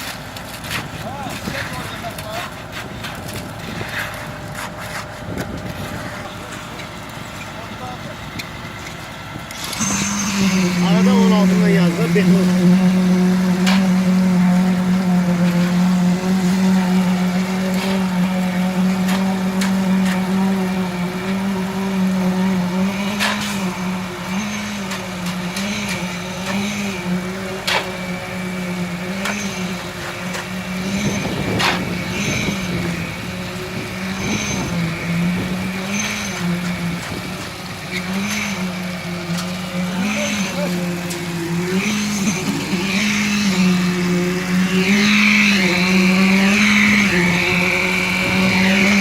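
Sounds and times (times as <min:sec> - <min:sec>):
engine running: 0:00.0 - 0:49.0.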